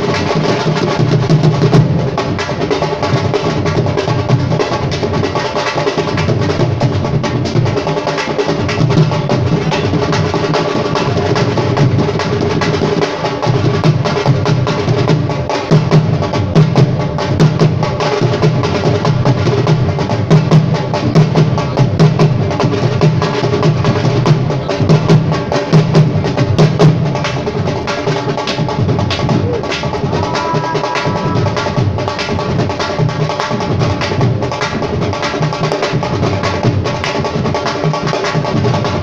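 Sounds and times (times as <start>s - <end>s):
fast dense drumming: 0.0s - 39.0s.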